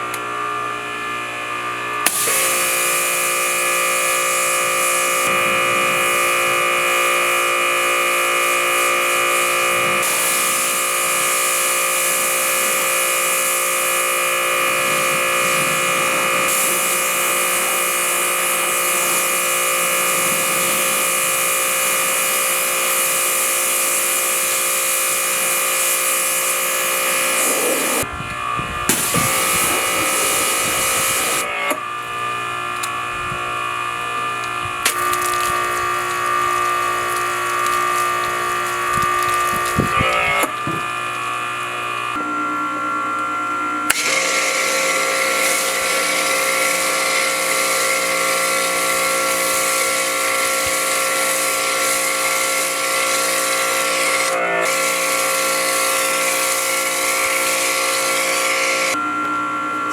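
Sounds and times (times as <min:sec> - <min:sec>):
electric motor drone with whine: 0:00.0 - 0:59.9.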